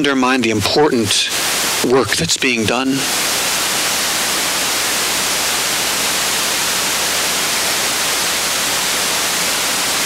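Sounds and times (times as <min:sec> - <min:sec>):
loud steady electronic hiss: 0:00.0 - 0:10.0.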